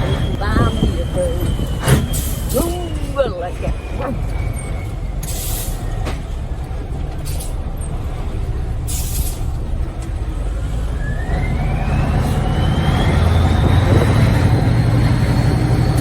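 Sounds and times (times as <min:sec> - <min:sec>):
diesel truck engine: 0:00.0 - 0:16.0.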